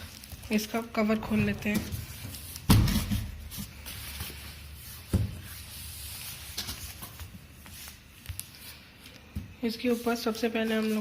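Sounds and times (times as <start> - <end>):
cardboard and packing rustling: 0.0 - 11.0.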